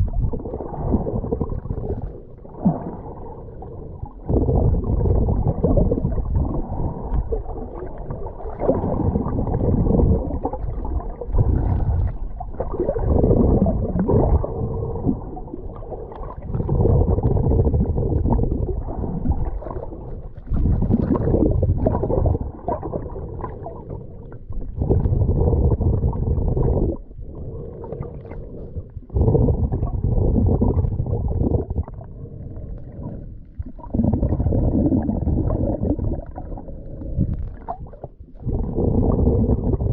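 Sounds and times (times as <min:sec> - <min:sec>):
muffled sea water sloshing: 0:00.0 - 0:39.9.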